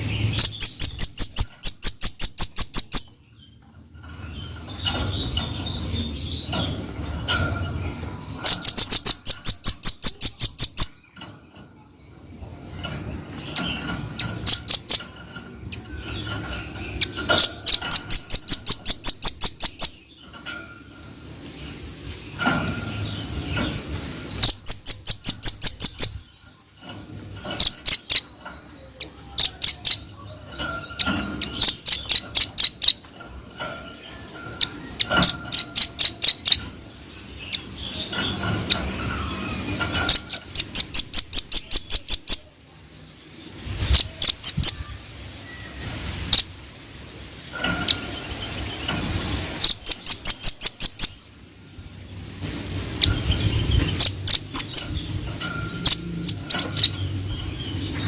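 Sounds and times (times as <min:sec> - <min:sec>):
nuthatch calling: 0:00.0 - 0:03.5, 0:04.3 - 0:11.1, 0:12.8 - 0:21.1, 0:24.3 - 0:26.4, 0:27.4 - 0:36.8, 0:37.4 - 0:42.5, 0:43.8 - 0:46.6, 0:47.4 - 0:51.2, 0:52.7 - 0:58.0.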